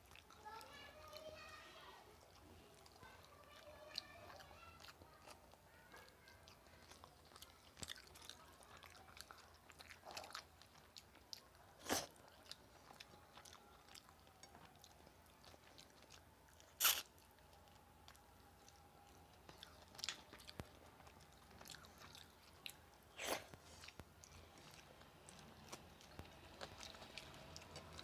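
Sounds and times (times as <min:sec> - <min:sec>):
close chewing with wet mouth clicks: 0:00.0 - 0:28.0.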